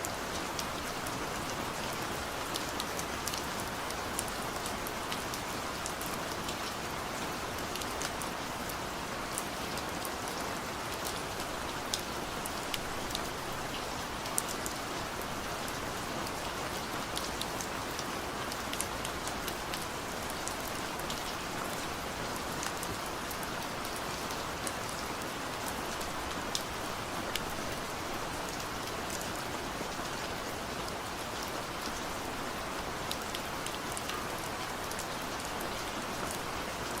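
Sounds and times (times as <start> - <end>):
raindrops ticking on a surface: 0.0 - 37.0
steady rain hiss: 0.0 - 37.0.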